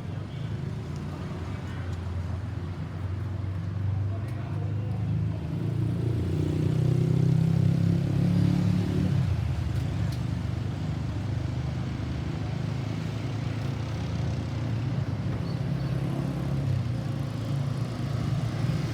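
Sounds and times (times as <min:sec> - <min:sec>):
traffic noise: 0:00.0 - 0:18.9.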